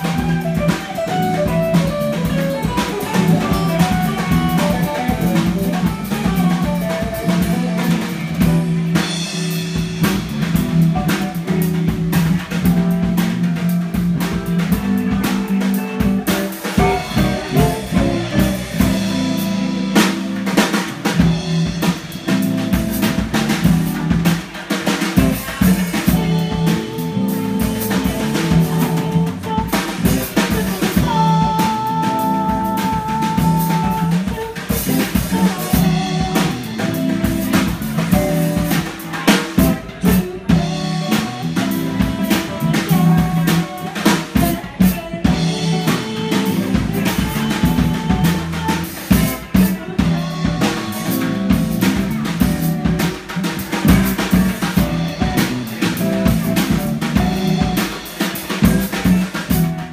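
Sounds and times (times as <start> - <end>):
electric bass line: 0.0 - 59.9
electric guitar: 0.0 - 59.9.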